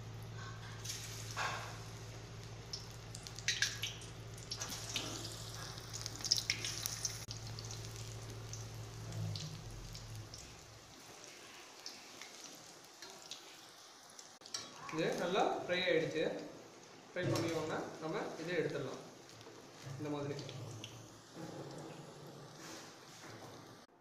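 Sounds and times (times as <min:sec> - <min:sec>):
oil sizzling and popping: 0:00.0 - 0:23.9.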